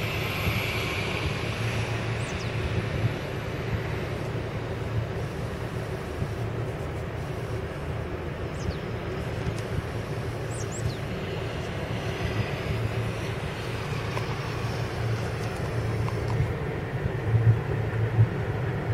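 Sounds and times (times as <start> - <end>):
distant diesel engines rumbling: 0.0 - 18.9.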